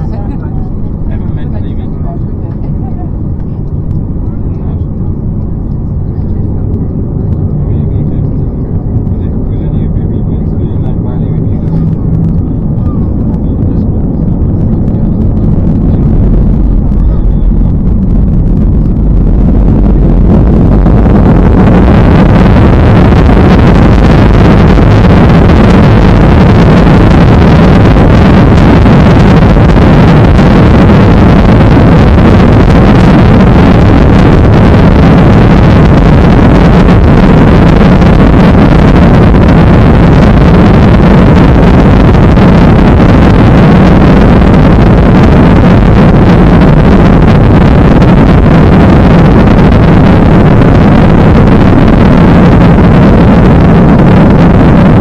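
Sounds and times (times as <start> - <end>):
jet engines roaring: 0.0 - 55.0
wind buffeting microphone: 0.0 - 55.0.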